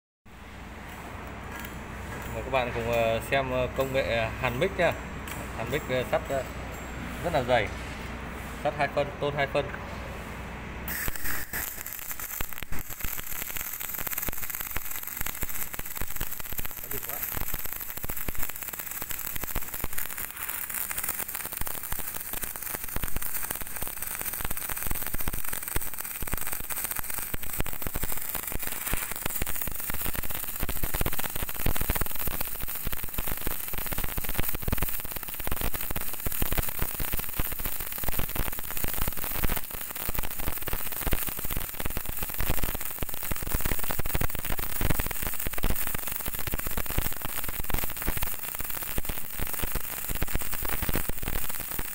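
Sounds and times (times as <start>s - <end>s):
welding arc crackling sizzle: 0.3s - 6.6s, 7.2s - 8.0s, 10.4s - 51.9s.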